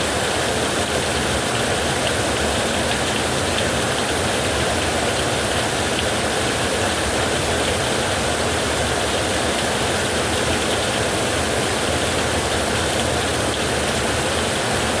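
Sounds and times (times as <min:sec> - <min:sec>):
heavy rain on a metal roof: 0:00.0 - 0:15.0.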